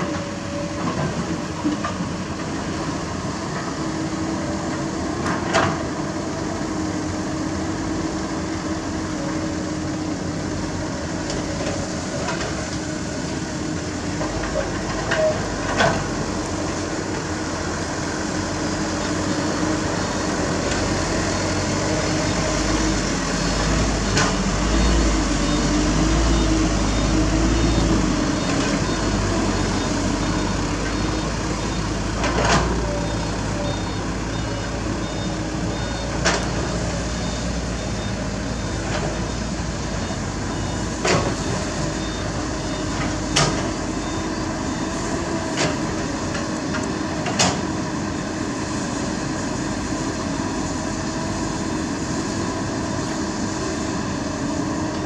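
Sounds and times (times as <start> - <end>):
diesel engines running: 0.0 - 55.0
truck engine rumble: 0.0 - 55.0.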